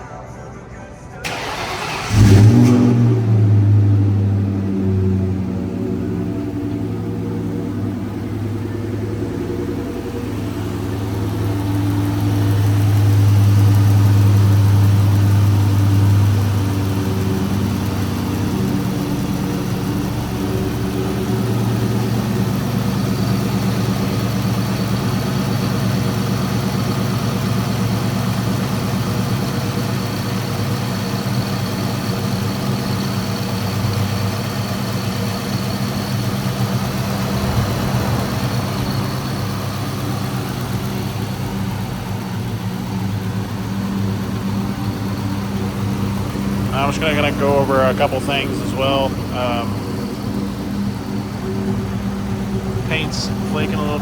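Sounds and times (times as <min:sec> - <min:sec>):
car engine idling: 0:01.2 - 0:54.0.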